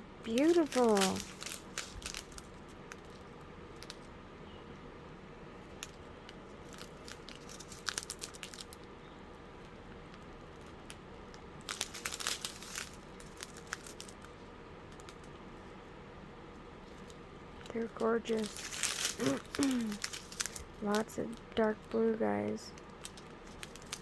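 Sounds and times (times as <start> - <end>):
plastic bags crinkling: 0.2 - 4.1, 5.6 - 15.4, 16.8 - 24.0.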